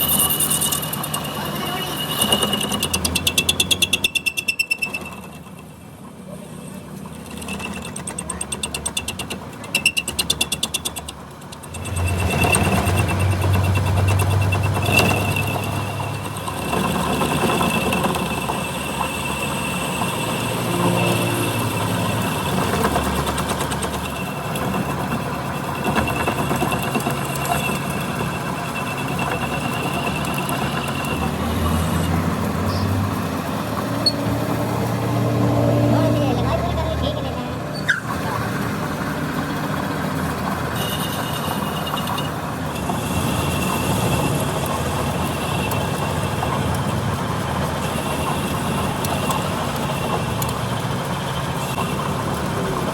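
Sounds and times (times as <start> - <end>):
rapid mechanical rattle: 0.0 - 52.9.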